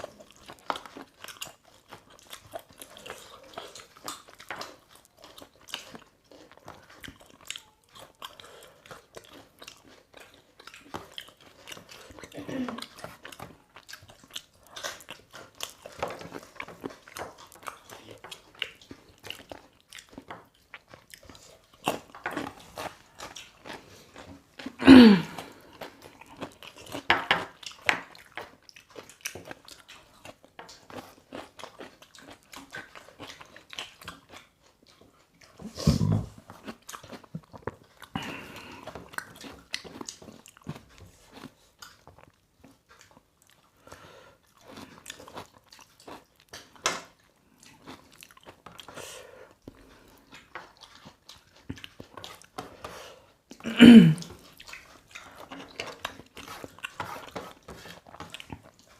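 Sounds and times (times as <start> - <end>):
chewing and crunching: 0.0 - 58.9.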